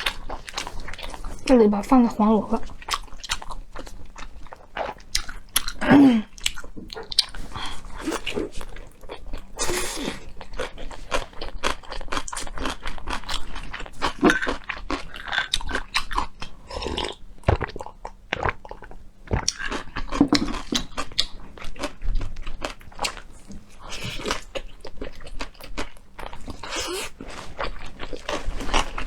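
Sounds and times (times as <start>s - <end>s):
chewing with wet crunches: 0.0s - 1.6s, 2.6s - 29.0s.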